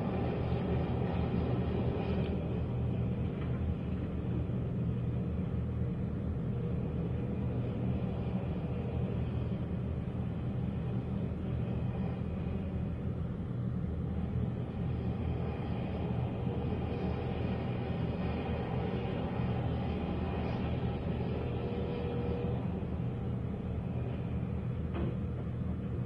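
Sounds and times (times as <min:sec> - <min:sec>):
heavy engines rumbling: 0:00.0 - 0:26.0.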